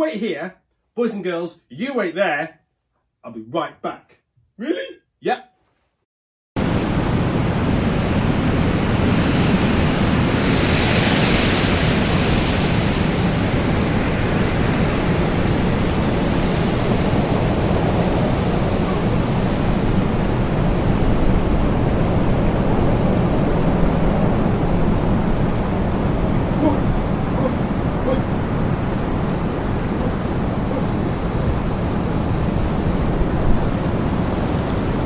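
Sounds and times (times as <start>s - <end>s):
strong wind rushing: 6.6s - 35.0s.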